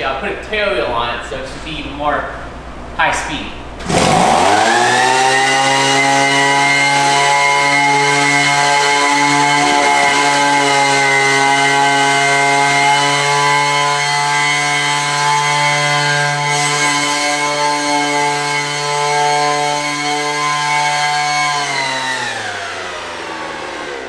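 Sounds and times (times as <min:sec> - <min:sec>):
leaf blower engine revving: 0:03.8 - 0:24.0.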